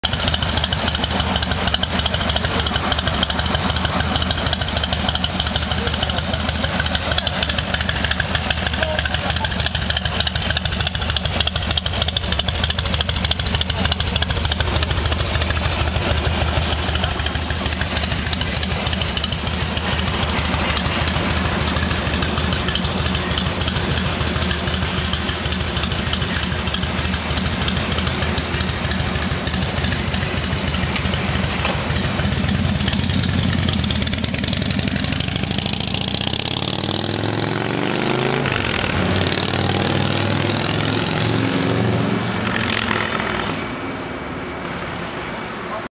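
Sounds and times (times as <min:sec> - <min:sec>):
motorcycle engine idling and accelerating: 0:00.0 - 0:45.9.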